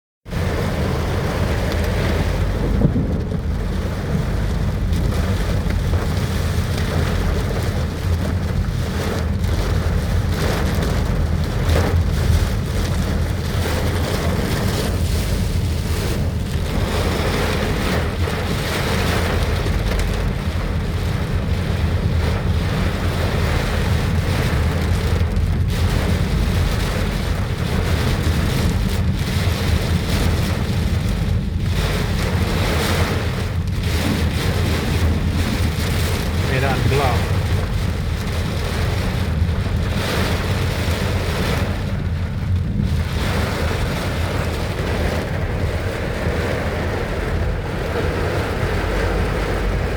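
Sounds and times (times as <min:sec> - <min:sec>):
wind rumbling on microphone: 0:00.2 - 0:49.9
heavy rain pouring: 0:00.3 - 0:49.9.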